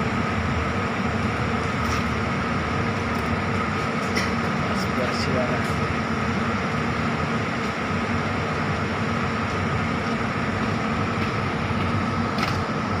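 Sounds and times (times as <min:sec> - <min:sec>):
bus engine idling: 0:00.0 - 0:13.0
constant high whine: 0:00.0 - 0:13.0.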